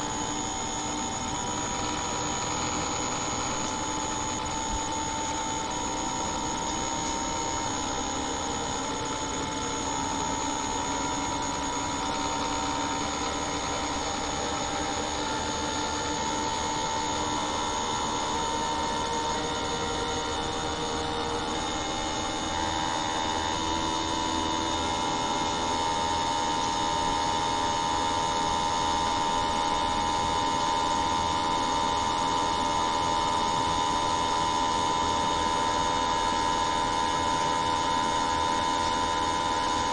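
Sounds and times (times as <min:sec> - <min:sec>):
machine running with whining tones: 0:00.0 - 0:39.9
thin high whine: 0:00.0 - 0:39.9.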